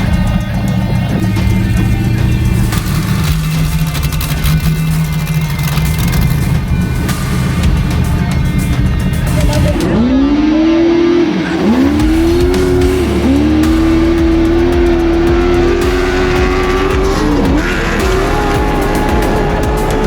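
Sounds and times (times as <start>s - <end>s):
background music: 0.0s - 20.0s
truck engine accelerating: 0.0s - 20.0s.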